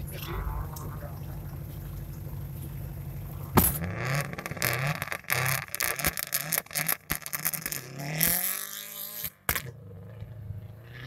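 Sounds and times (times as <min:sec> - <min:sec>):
tyres churning snow: 0:00.0 - 0:09.2
rally car engine revving: 0:00.0 - 0:11.0.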